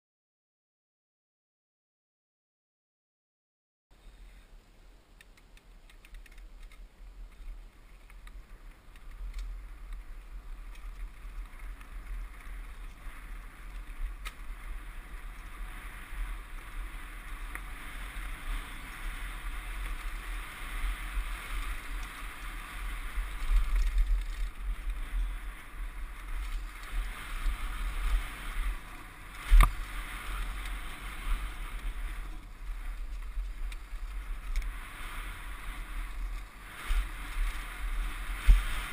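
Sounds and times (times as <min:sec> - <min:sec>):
bike rattling: 0:05.5 - 0:38.9
wind buffeting microphone: 0:06.5 - 0:38.9.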